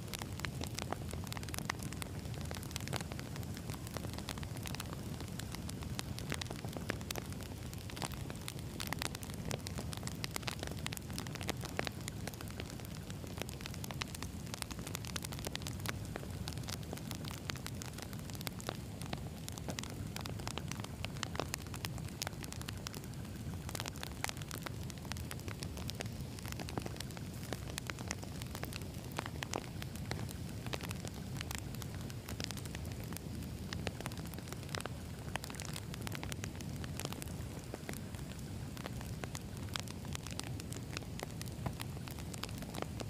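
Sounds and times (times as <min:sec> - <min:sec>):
burning wood crackling and popping: 0:00.0 - 0:43.0
campfire flames rushing: 0:00.0 - 0:43.0.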